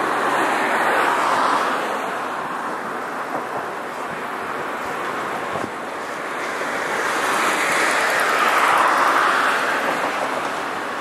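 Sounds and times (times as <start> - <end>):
distant diesel railcar running: 2.2 - 11.0.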